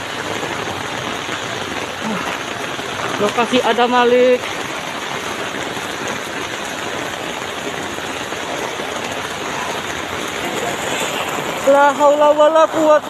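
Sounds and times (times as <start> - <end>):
rain: 0.0 - 13.0.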